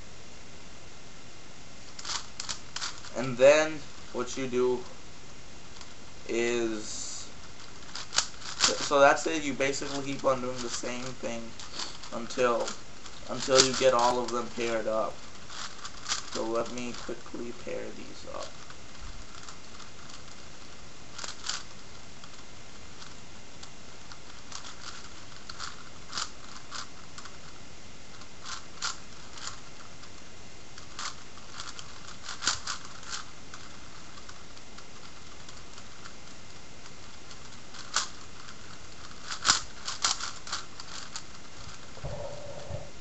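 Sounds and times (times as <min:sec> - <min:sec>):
puzzle cube plastic clicks: 0:01.9 - 0:04.5, 0:06.8 - 0:42.0.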